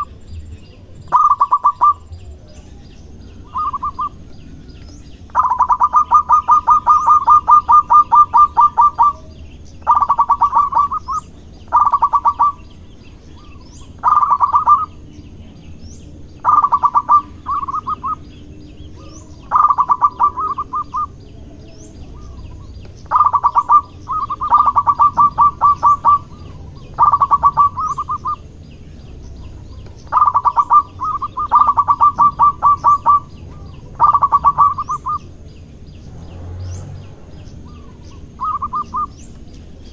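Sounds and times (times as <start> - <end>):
dove cooing: 0.0 - 15.5, 16.4 - 28.6, 29.3 - 35.5, 37.2 - 39.4
faint high bird chirps: 0.0 - 39.9.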